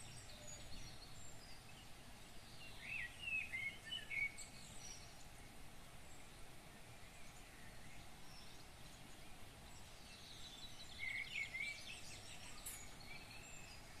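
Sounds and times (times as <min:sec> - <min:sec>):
birds chirping: 0:00.0 - 0:14.0
faint outdoor background noise: 0:00.0 - 0:14.0.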